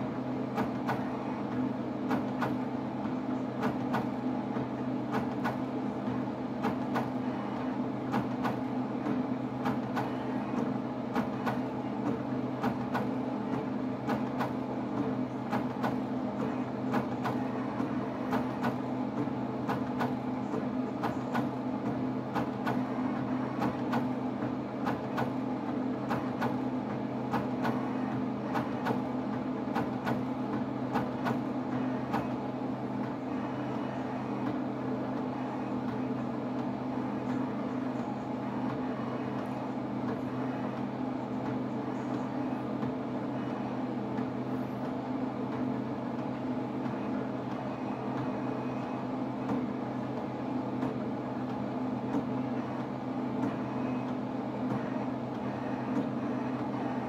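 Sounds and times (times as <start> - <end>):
plotter motors whirring: 0.0 - 57.0.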